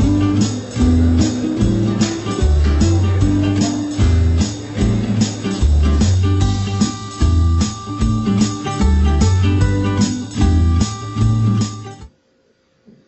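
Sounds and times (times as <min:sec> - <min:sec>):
guitar music with bass and beat: 0:00.0 - 0:12.1.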